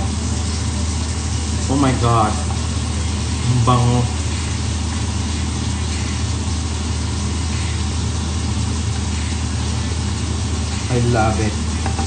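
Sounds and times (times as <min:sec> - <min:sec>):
steady low hum: 0:00.0 - 0:12.0
vegetables sizzling in a pan: 0:00.0 - 0:12.0.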